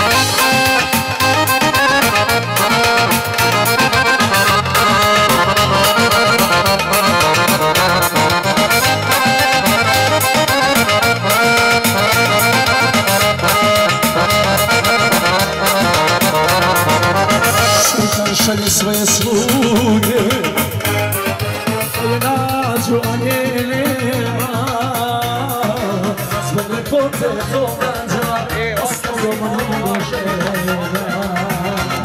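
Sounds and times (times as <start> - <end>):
accordion melody: 0.0 - 32.0
keyboard backing: 0.0 - 32.0
steady beat and bass: 0.0 - 32.0.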